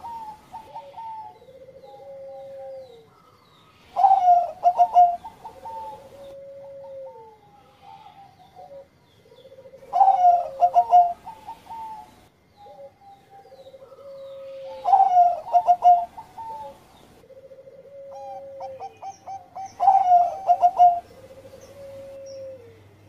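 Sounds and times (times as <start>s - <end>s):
dove cooing song: 0.0s - 23.0s.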